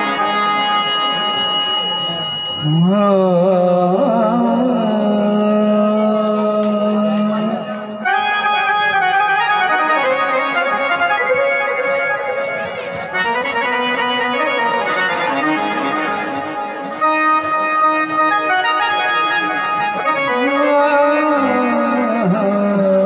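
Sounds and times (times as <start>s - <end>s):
reed instrument folk melody: 0.0s - 23.0s.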